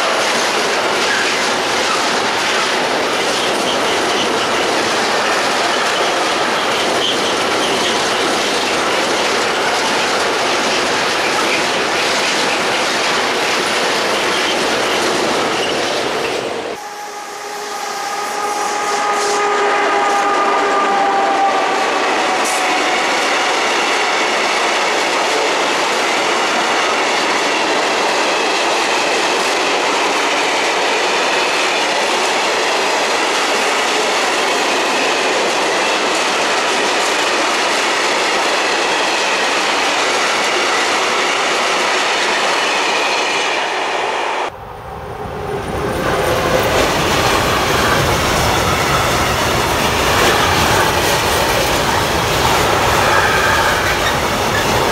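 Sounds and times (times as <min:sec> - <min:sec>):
train wheels clattering over rails: 0:00.0 - 0:16.8, 0:22.1 - 0:43.5, 0:45.4 - 0:54.9.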